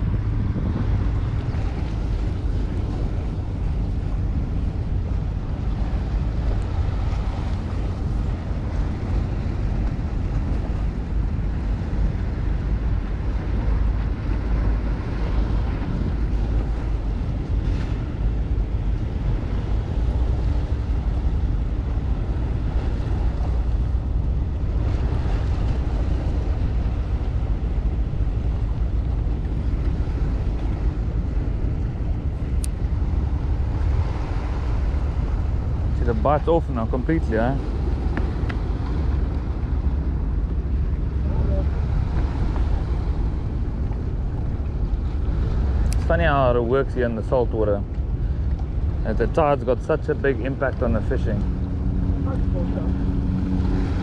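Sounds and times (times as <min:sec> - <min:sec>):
harbour water washing: 0:00.0 - 0:54.0
wind buffeting microphone: 0:00.0 - 0:54.0.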